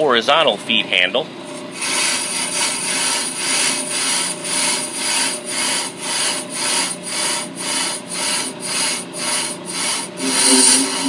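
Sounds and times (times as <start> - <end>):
cutting bit scraping brake drum: 1.5 - 11.0.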